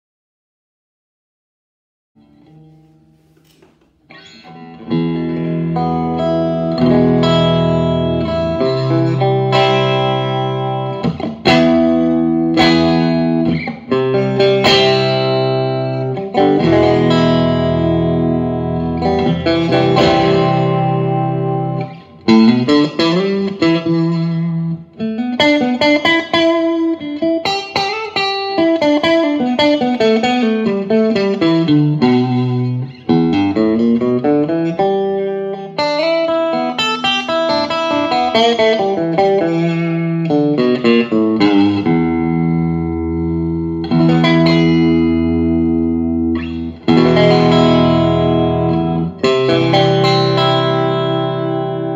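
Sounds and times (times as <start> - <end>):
electric guitar strummed chords: 2.2 - 51.9.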